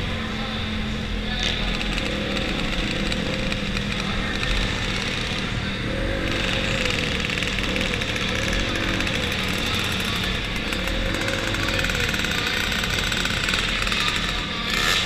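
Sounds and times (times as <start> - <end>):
dirt bike engine running hard: 0.0 - 15.0
racing motorcycle ahead: 0.0 - 15.0.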